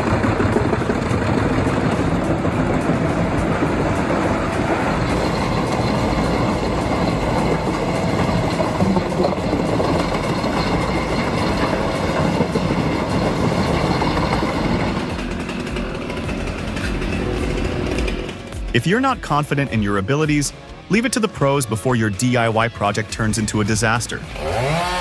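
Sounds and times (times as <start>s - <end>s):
heavy machinery rumbling: 0.0s - 21.2s.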